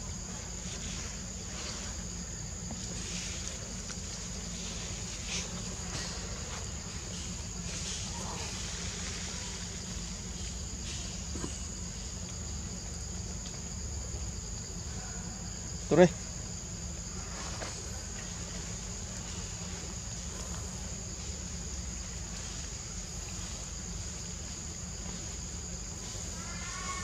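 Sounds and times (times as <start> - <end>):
insects chirring: 0.0 - 27.0
low steady hum: 0.0 - 27.0.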